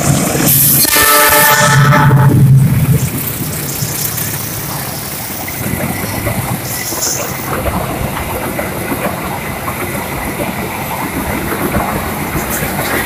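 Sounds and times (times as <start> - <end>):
train rumbling along track: 0.0 - 13.0.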